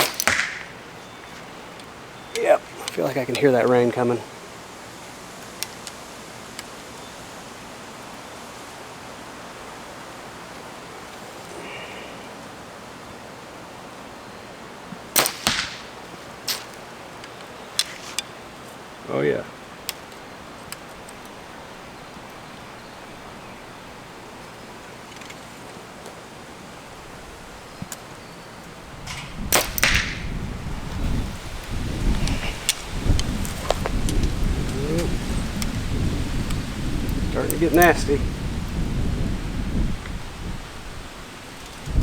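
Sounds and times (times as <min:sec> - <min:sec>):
rain hissing: 0:00.0 - 0:42.0.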